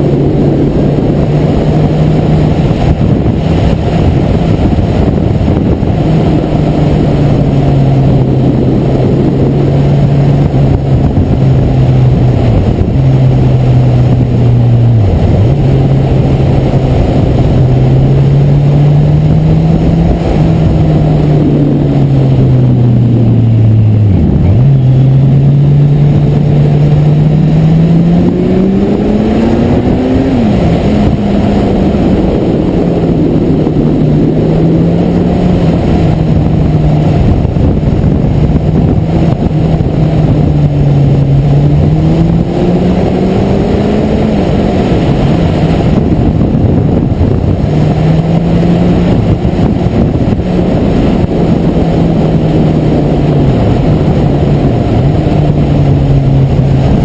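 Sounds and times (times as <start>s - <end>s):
motorcycle engine revving: 0.0s - 57.0s
wind and road rush: 0.0s - 57.0s.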